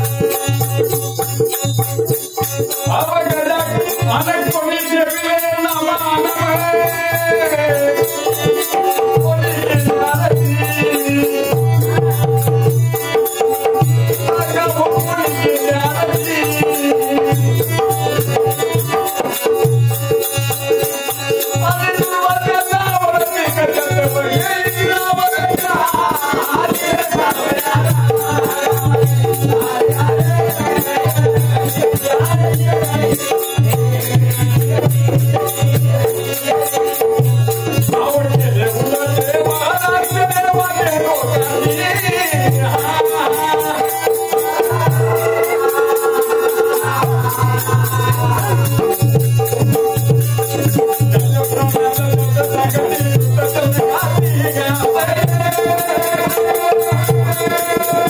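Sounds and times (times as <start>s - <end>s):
shaken rattle rhythm: 0.0s - 58.0s.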